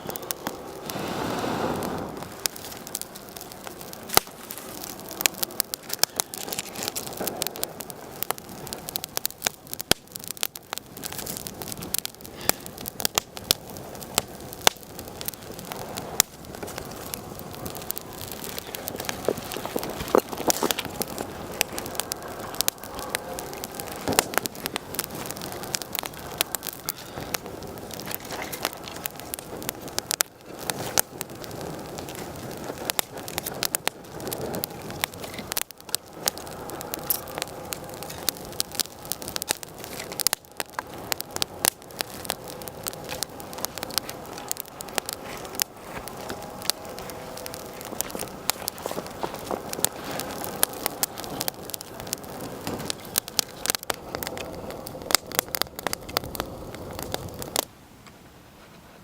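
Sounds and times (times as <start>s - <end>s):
wood fire crackling and popping: 0.0s - 58.2s.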